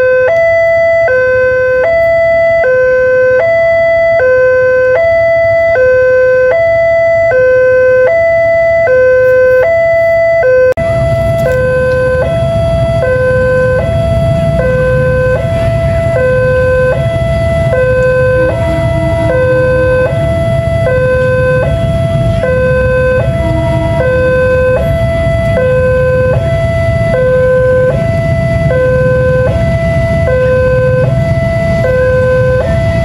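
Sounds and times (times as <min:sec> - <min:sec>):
two-tone crossing alarm: 0:00.0 - 0:33.0.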